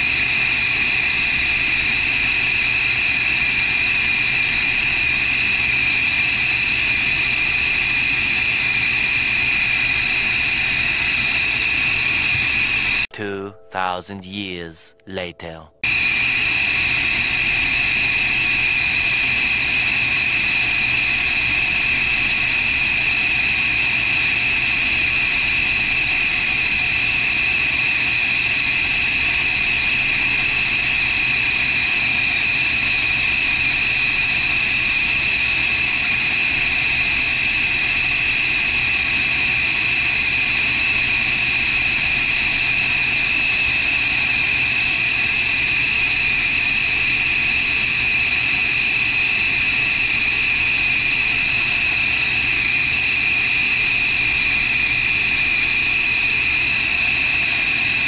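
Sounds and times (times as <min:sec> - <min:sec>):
torch flame hissing: 0:00.0 - 0:13.1, 0:15.9 - 0:58.0.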